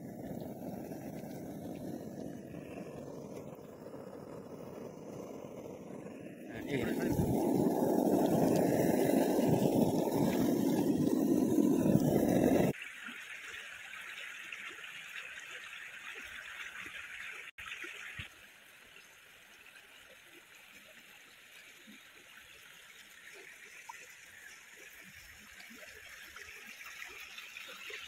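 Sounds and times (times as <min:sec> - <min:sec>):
stream trickling over stones: 0:00.0 - 0:28.0.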